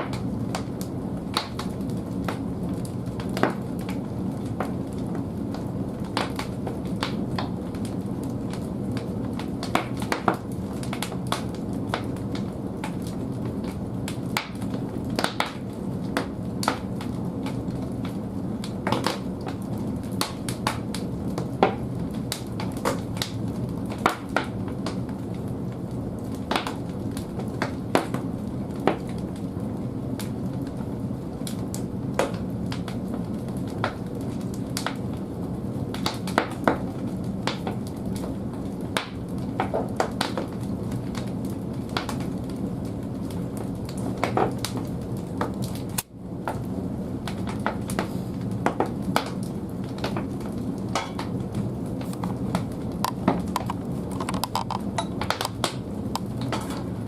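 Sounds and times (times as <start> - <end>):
low rush of flames: 0.0 - 57.0
wood crackling and popping: 0.0 - 57.0.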